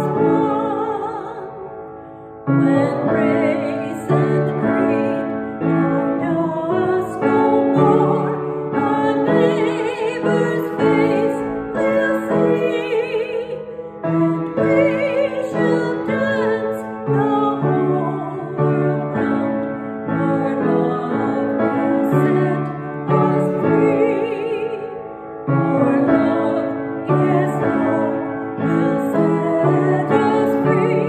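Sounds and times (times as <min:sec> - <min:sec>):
woman singing a hymn: 0:00.0 - 0:01.8, 0:02.5 - 0:31.0
piano chords: 0:00.0 - 0:31.0.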